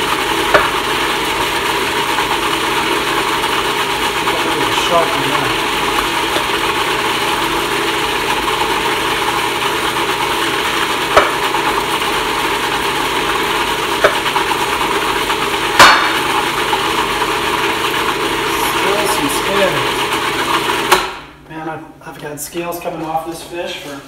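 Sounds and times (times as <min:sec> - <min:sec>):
steady machine hum: 0:00.0 - 0:23.7.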